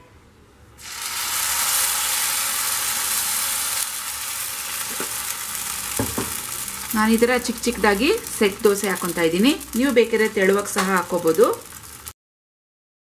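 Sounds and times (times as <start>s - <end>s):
batter sizzling on hot pan: 0.8s - 12.2s.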